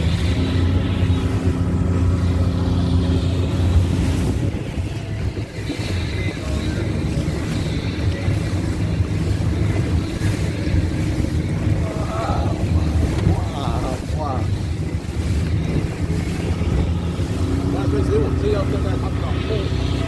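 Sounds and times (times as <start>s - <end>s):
boat engine humming: 0.0s - 20.0s
water rushing past hull: 0.0s - 20.0s
wind buffeting microphone: 0.0s - 20.0s.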